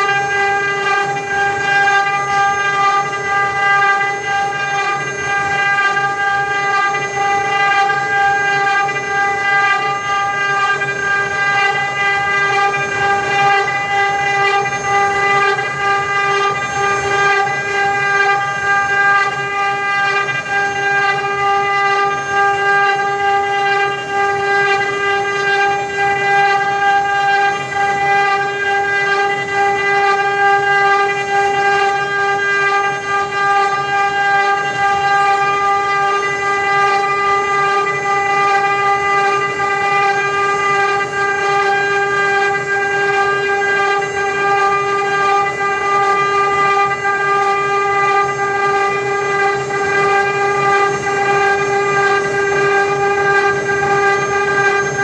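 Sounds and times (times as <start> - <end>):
cutters carving wood: 0.0 - 55.0
wood router spindles whining: 0.0 - 55.0.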